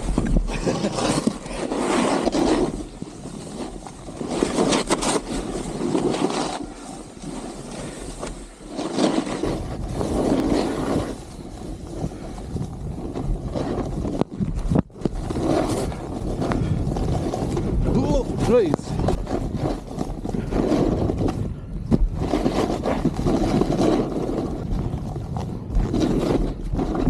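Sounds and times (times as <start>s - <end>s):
snowboard scraping on snow: 0.0s - 27.0s
wind on microphone: 0.0s - 27.0s.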